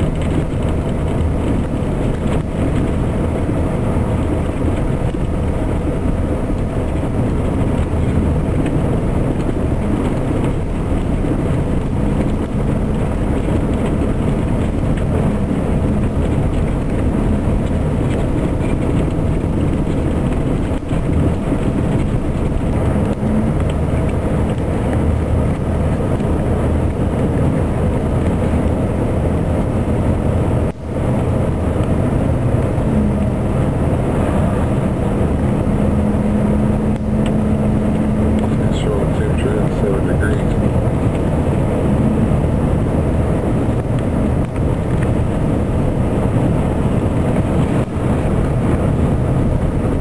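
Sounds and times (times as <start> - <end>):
road noise: 0.0 - 50.0
vehicle engine drone: 0.0 - 50.0
wind noise: 0.0 - 50.0.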